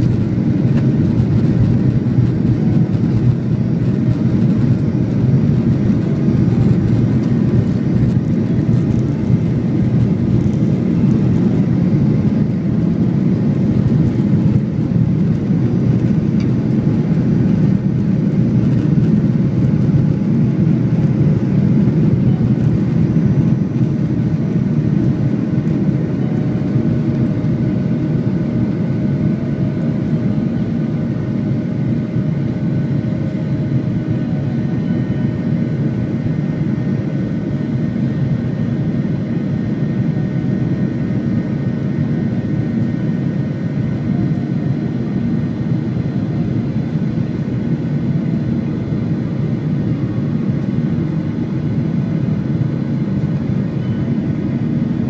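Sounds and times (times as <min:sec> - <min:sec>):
jet engines roaring in cabin: 0:00.0 - 0:55.0.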